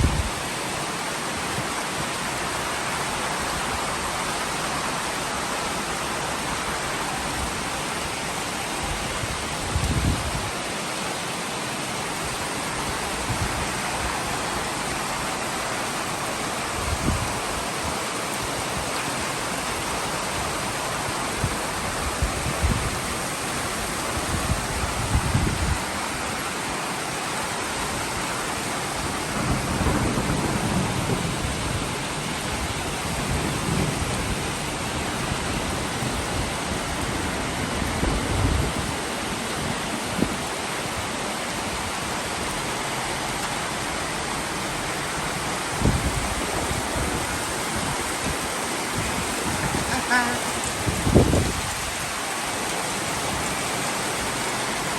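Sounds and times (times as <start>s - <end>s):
heavy rain with hail: 0.0s - 54.9s.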